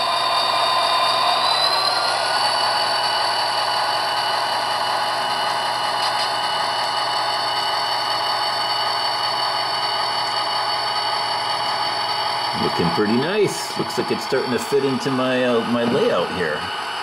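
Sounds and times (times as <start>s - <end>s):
diesel engine sound from speaker: 0.0s - 17.0s
motor and gear whine: 0.0s - 17.0s.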